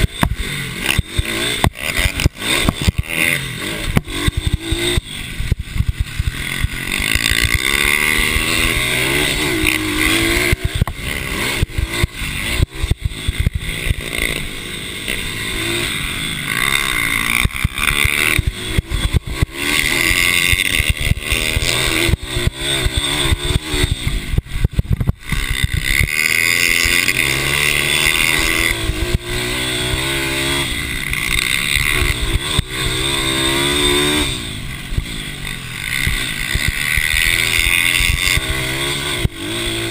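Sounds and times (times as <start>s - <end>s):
mini bike engines revving: 0.0s - 39.9s.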